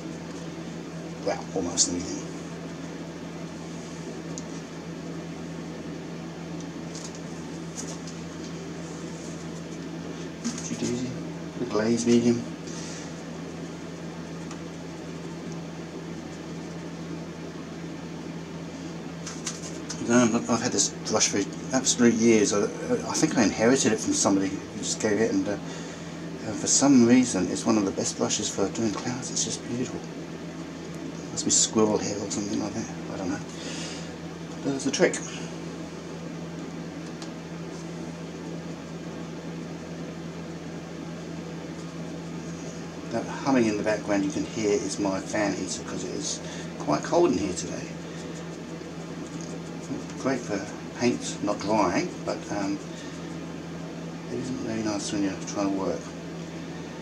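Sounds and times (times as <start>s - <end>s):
electric fan heater humming: 0.0s - 57.0s.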